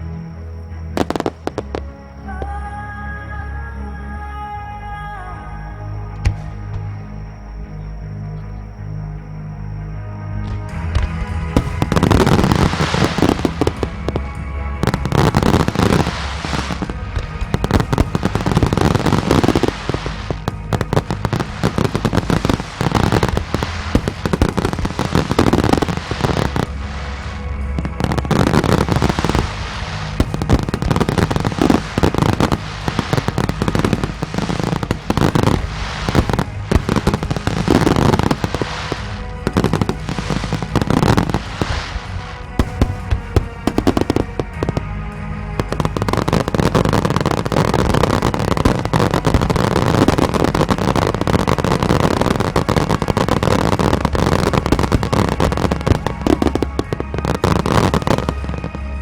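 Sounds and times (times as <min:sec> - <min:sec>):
fireworks bursting with crackle: 0:00.0 - 0:02.7, 0:06.2 - 0:59.0
music: 0:00.0 - 0:59.0.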